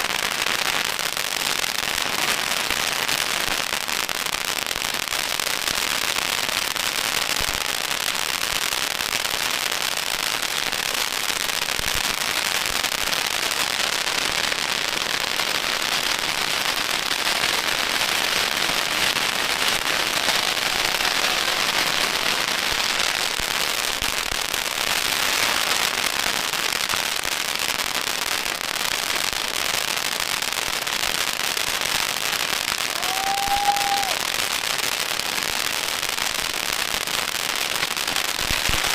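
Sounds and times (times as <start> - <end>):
firecrackers popping: 0.0 - 38.9.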